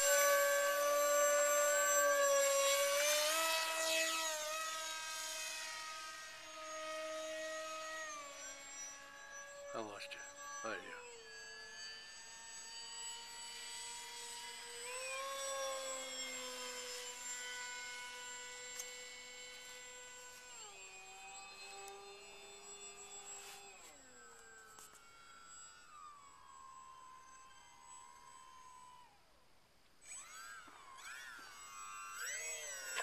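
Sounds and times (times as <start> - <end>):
model airplane motor whine: 0.0 - 33.0.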